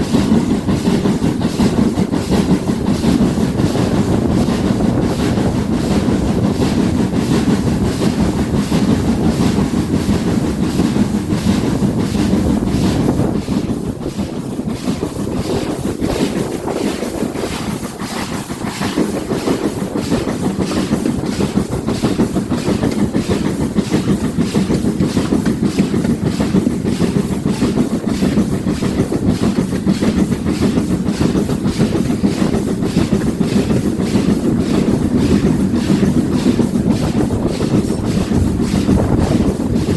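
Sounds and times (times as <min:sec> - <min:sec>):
steam train rhythmic beat: 0:00.0 - 0:39.9.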